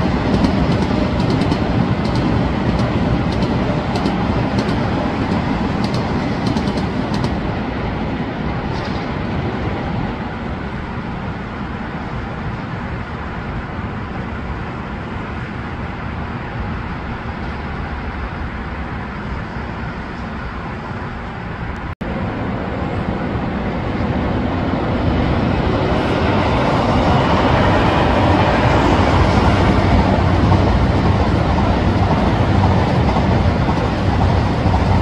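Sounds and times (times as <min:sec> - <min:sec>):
road traffic: 0:00.0 - 0:35.0
trains passing: 0:00.0 - 0:35.0.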